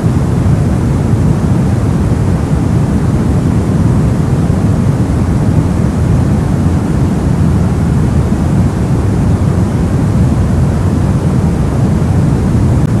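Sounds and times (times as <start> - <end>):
soft low white noise: 0.0 - 13.0.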